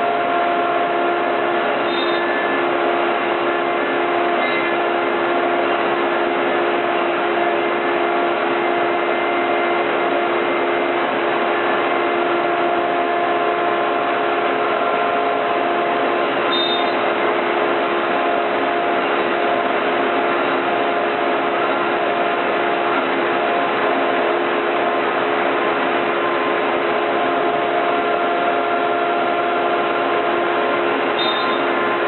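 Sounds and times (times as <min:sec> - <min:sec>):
router spindle whine: 0:00.0 - 0:32.0.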